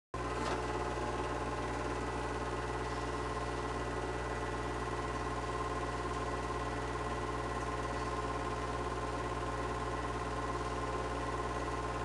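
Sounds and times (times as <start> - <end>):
film projector running: 0.2 - 12.0.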